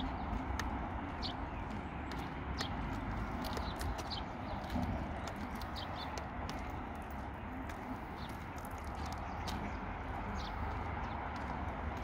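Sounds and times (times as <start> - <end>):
light footsteps on pavement: 0.0 - 12.0.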